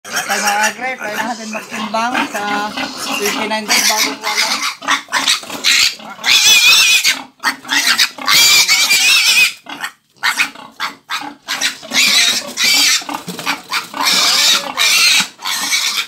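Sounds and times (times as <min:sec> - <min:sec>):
piglet squealing: 0:00.1 - 0:16.0.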